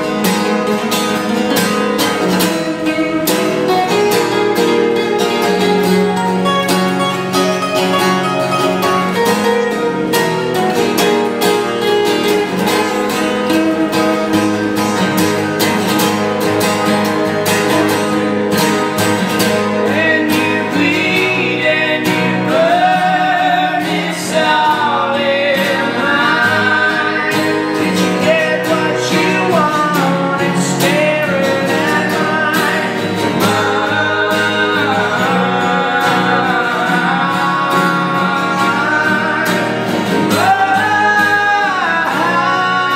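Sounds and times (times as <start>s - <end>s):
guitar playing: 0.0s - 42.9s
person singing: 2.2s - 14.6s, 19.6s - 42.9s.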